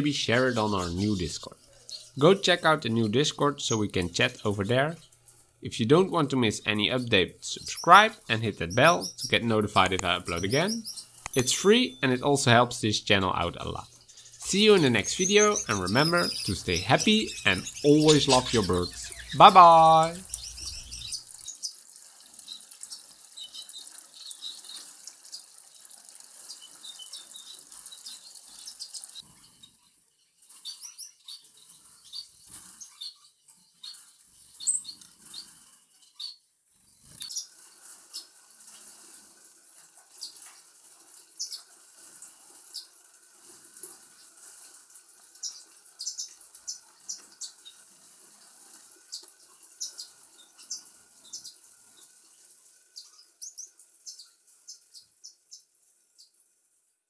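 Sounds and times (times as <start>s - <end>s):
faint steady hiss: 0.0s - 29.2s, 37.1s - 57.0s
finches chirping: 0.3s - 29.2s, 37.2s - 55.6s.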